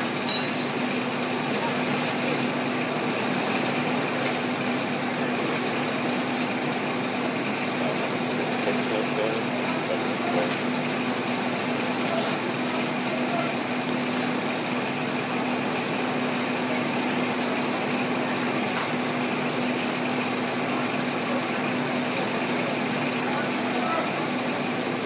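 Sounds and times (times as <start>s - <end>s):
diesel engines droning: 0.0s - 25.0s.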